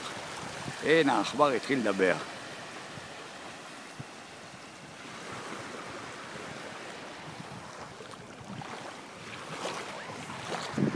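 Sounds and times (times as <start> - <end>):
wind on microphone: 0.0 - 1.4, 2.8 - 10.9
small waves washing on shore: 0.0 - 10.9.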